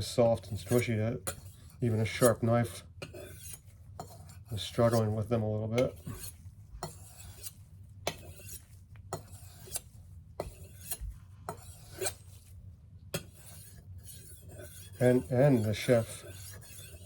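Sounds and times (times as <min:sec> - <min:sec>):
knife scraping on sharpening stone: 0:00.4 - 0:05.2, 0:05.8 - 0:17.0.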